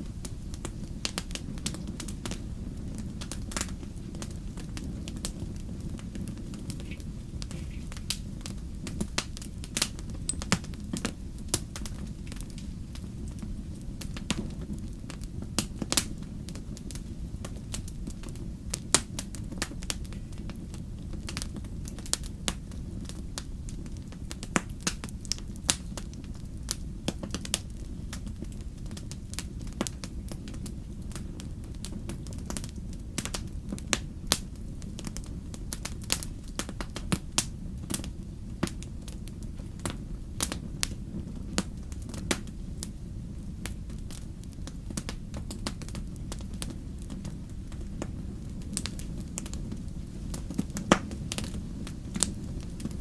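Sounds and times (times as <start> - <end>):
low rumble of burning: 0.0 - 53.0
wood fire crackling: 0.0 - 53.0.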